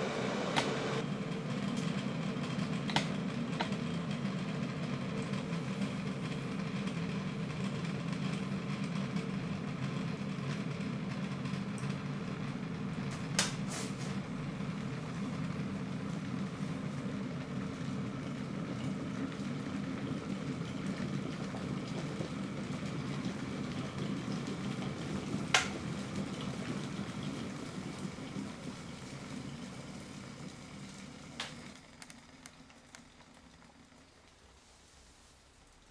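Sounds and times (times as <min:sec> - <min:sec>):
electric kettle rumbling: 0:00.0 - 0:35.9.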